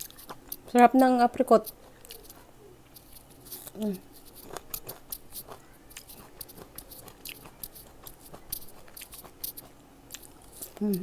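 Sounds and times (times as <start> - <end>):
person chewing fruit: 0.0 - 11.0.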